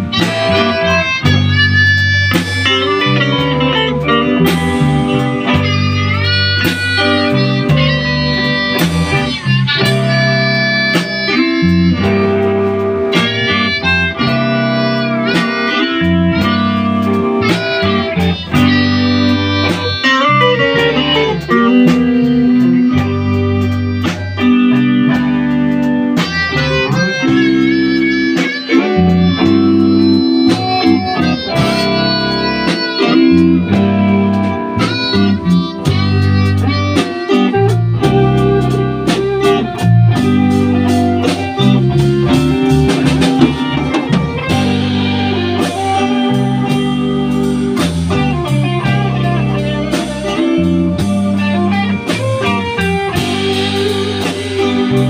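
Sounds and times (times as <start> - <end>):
amplified harmonica: 0.0 - 55.0
bass guitar: 0.0 - 55.0
drum kit: 0.0 - 55.0
electric guitar: 0.0 - 55.0.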